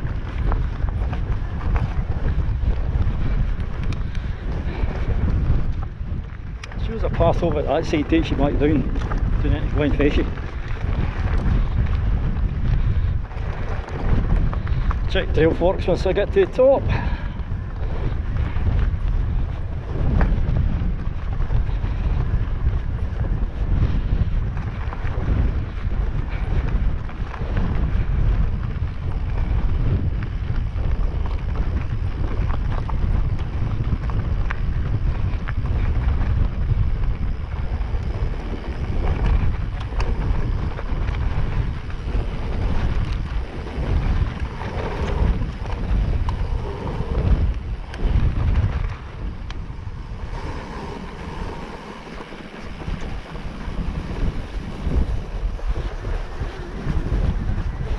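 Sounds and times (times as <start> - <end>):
bike tyres rumbling on stones: 0.0 - 57.9
wind buffeting microphone: 0.0 - 57.9.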